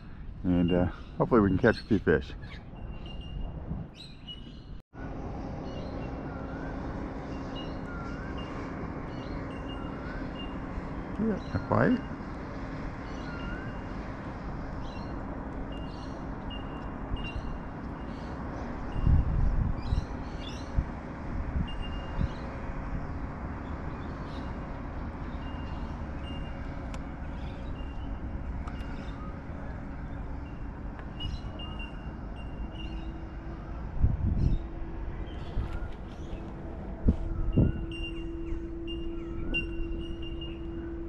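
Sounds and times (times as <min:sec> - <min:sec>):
low hum: 0:04.7 - 0:41.0.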